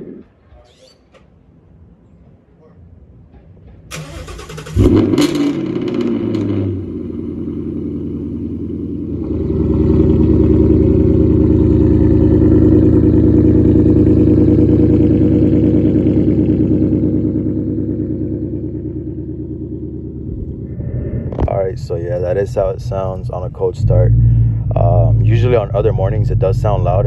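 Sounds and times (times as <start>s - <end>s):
car engine cold start and idle: 3.8s - 27.0s.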